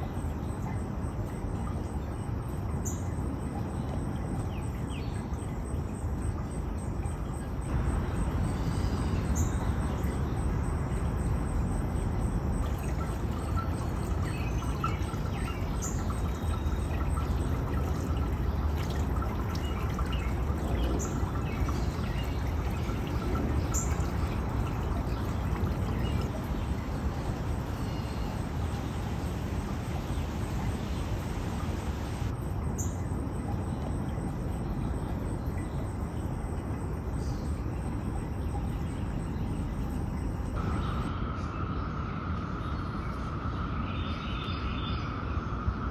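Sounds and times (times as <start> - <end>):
running water: 0.0 - 41.1.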